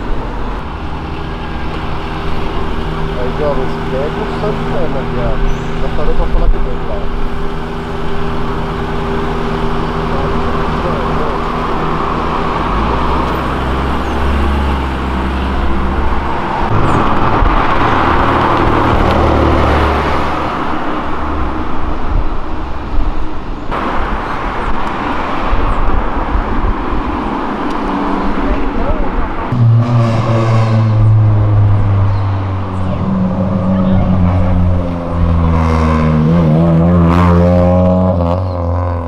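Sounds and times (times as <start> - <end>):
car engine passing: 0.0 - 39.0
deep engine rumble: 0.0 - 39.0
road and tyre noise: 0.0 - 39.0.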